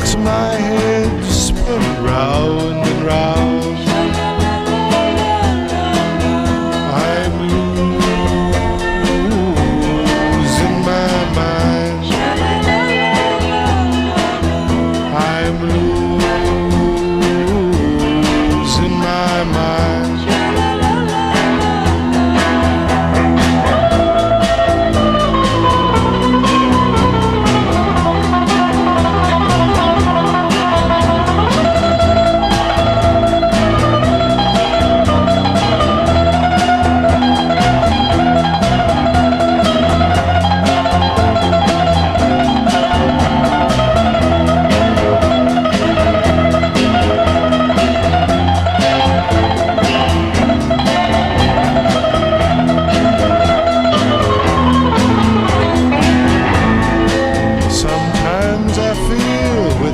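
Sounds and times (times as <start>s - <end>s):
bass: 0.0s - 59.9s
electric guitar lead: 0.0s - 59.9s
steady drum beat: 0.0s - 59.9s.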